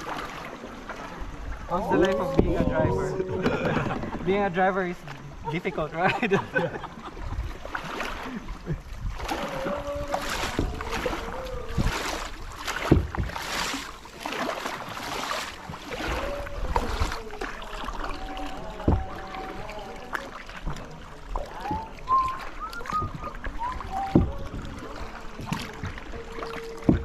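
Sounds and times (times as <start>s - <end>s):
paddle strokes swishing through water: 0.0s - 27.0s.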